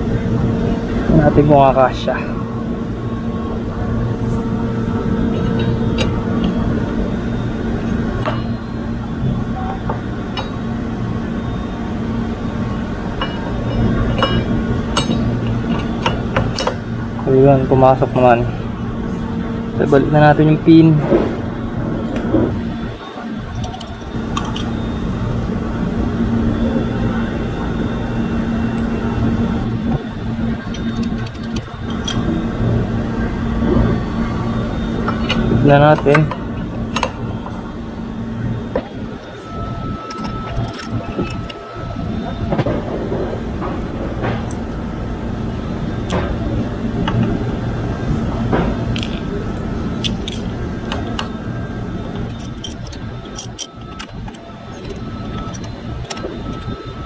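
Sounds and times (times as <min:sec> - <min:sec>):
background hum: 0:00.0 - 0:57.0
steady low rumble: 0:00.0 - 0:57.0.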